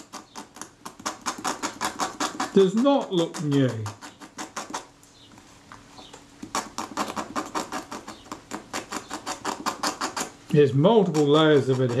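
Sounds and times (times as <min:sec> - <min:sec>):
metal tool scraping: 0:00.0 - 0:04.9, 0:06.4 - 0:12.0.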